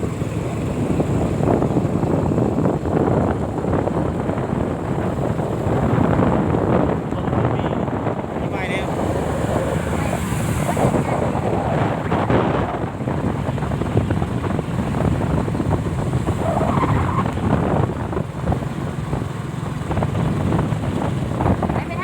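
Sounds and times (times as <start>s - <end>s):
vehicle rumble and road noise: 0.0s - 22.0s
wind buffeting microphone: 0.0s - 22.0s.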